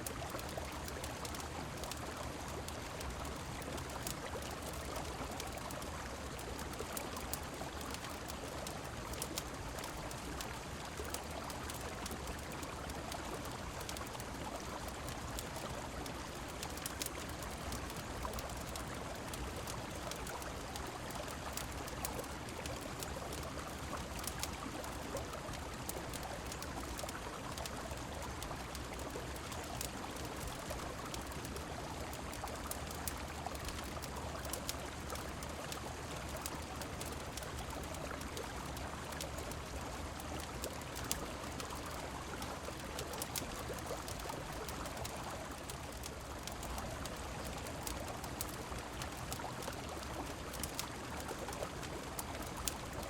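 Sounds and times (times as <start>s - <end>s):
rain falling: 0.0s - 53.0s
wood fire crackling: 0.0s - 53.0s.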